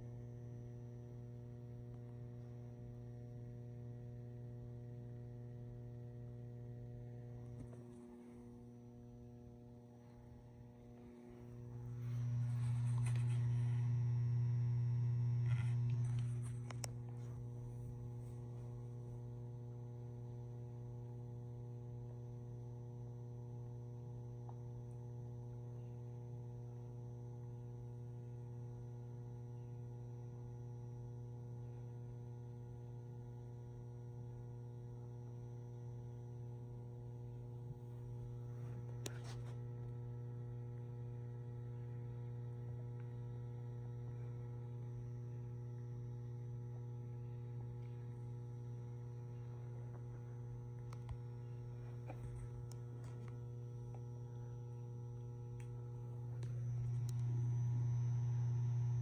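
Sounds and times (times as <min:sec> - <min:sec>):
lamp ballast humming: 0:00.0 - 0:59.0.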